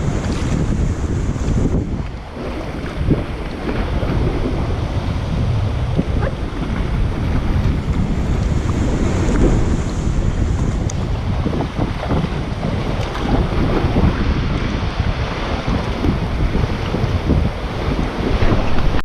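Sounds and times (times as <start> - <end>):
water lapping against a kayak: 0.0 - 19.0
wind buffeting microphone: 0.0 - 19.0.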